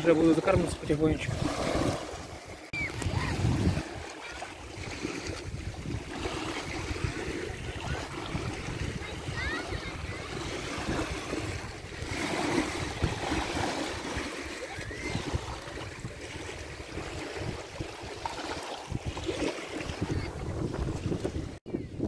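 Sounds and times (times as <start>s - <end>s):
small waves lapping: 0.0s - 21.6s
wind buffeting microphone: 0.0s - 22.0s.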